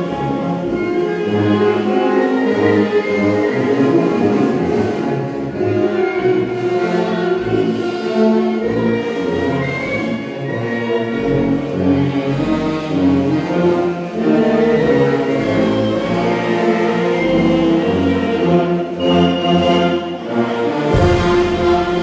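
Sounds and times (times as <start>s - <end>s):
choir singing: 0.0s - 22.0s
orchestral accompaniment: 0.0s - 22.0s.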